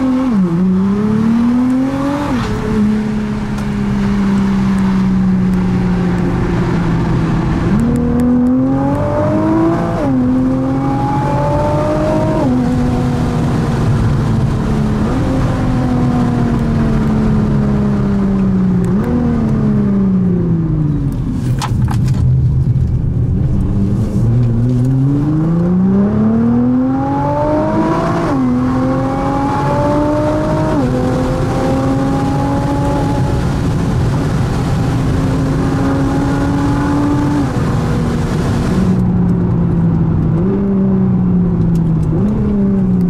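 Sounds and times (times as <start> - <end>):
car engine accelerating hard: 0.0 - 43.0.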